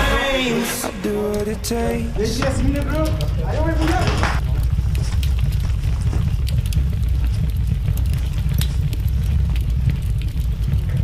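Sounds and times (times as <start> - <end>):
footsteps on debris: 0.8 - 11.0
wind buffeting microphone: 1.6 - 11.0.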